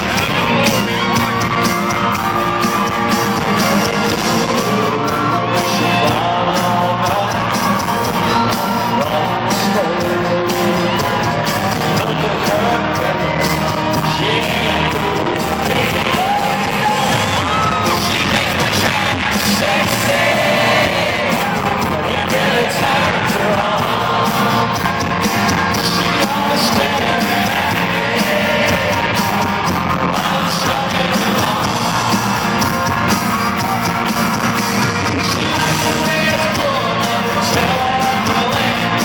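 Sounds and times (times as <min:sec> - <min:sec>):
lead singer singing: 0:00.0 - 0:39.0
live country band playing: 0:00.0 - 0:39.0.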